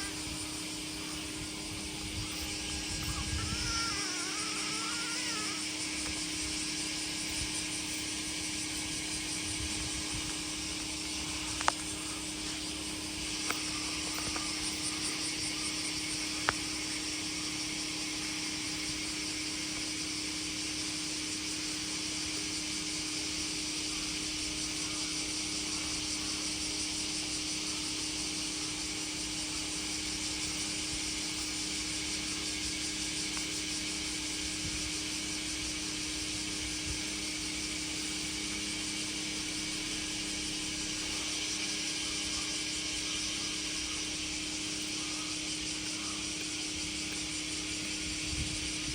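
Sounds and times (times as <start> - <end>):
high hiss: 0.0 - 48.9.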